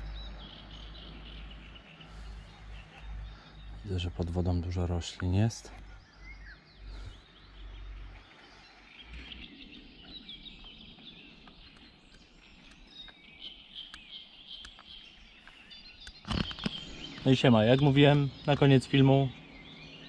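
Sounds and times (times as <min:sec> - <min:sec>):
birds singing and chirping: 0:00.0 - 0:20.0
outdoor background hiss: 0:00.0 - 0:20.0.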